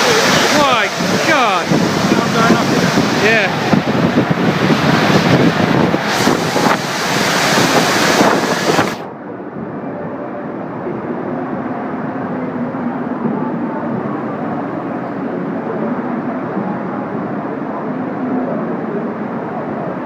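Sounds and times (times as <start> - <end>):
wind buffeting microphone: 0.0 - 17.8.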